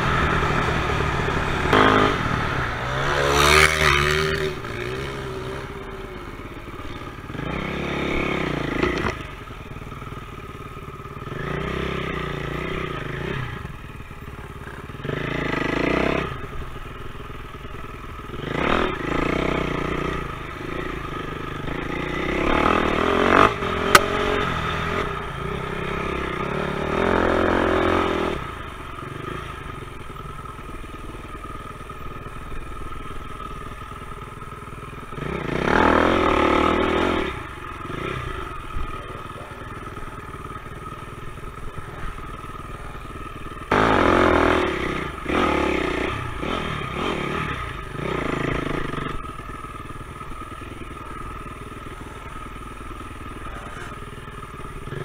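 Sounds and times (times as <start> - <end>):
dirt bike engine revving: 0.0 - 9.4, 11.2 - 13.8, 14.7 - 16.5, 18.3 - 29.9, 35.0 - 55.0.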